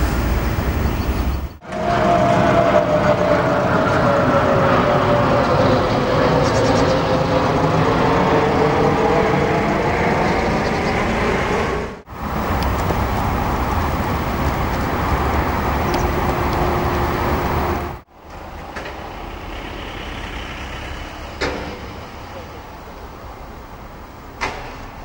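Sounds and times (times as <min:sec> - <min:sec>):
traffic noise with low rumble: 0:00.0 - 0:25.0.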